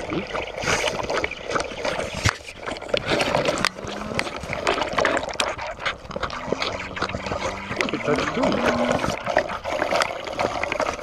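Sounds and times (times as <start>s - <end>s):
calf slurping milk: 0.0s - 11.0s.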